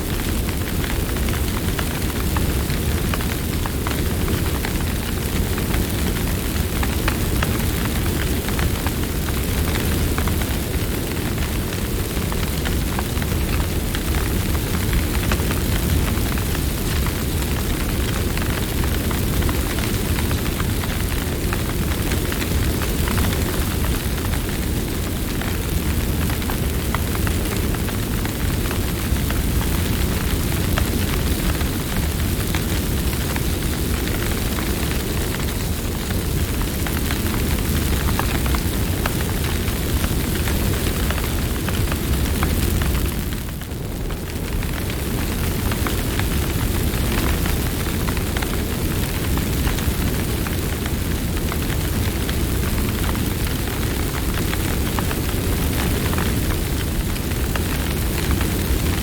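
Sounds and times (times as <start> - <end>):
campfire flame rumble: 0.0 - 59.0
fire crackles and pops: 0.0 - 59.0.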